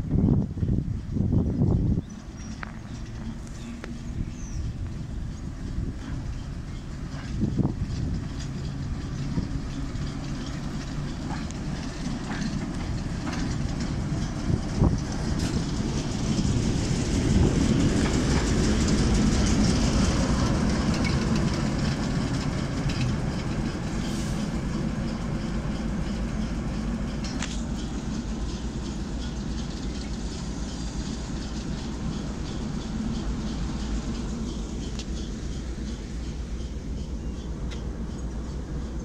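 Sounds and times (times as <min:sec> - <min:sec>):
diesel locomotive engine running: 0:00.0 - 0:39.0.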